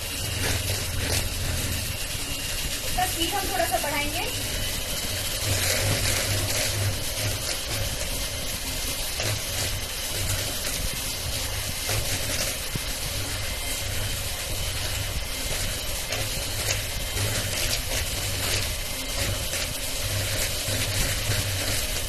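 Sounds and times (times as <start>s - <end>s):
electric hand mixer whipping: 0.0s - 22.0s.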